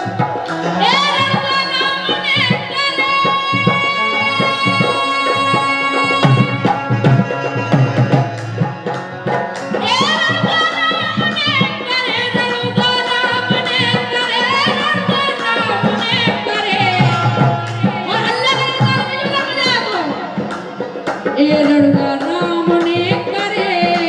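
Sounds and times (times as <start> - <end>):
fast hand drum beats: 0.0 - 24.0.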